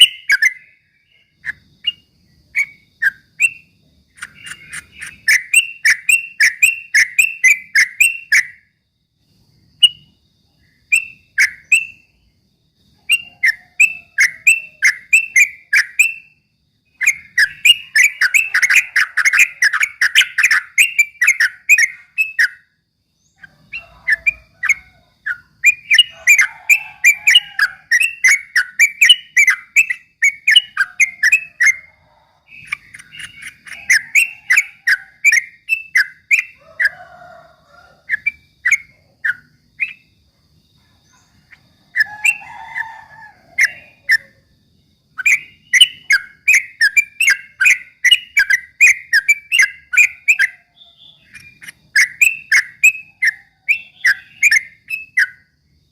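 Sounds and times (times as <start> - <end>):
bird singing chirping whistles: 0.0 - 8.7, 9.8 - 10.1, 10.8 - 12.2, 13.0 - 36.8, 38.1 - 40.1, 45.2 - 55.5.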